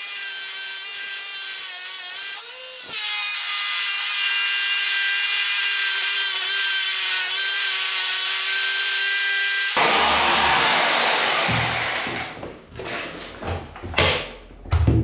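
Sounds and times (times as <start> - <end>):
power drill boring into concrete: 0.0 - 12.2.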